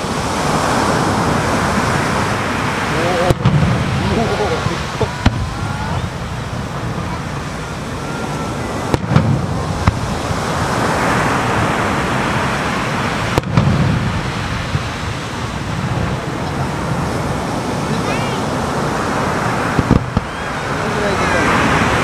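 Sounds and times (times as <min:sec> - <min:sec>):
fireworks booming: 0:00.0 - 0:22.0
surf on the shore: 0:00.0 - 0:22.0.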